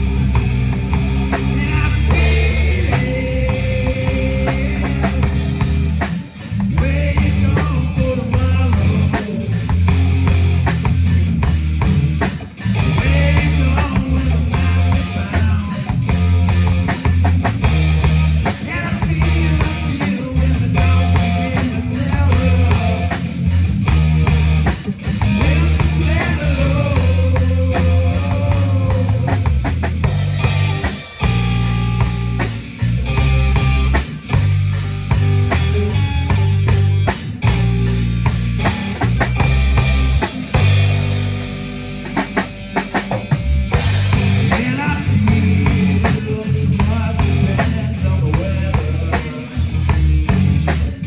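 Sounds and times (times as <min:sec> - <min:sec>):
rock band playing live: 0:00.0 - 0:51.0.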